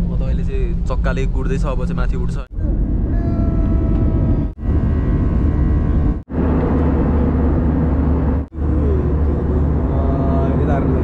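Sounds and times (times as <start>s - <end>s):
jet cabin engine rumble: 0.0s - 11.0s.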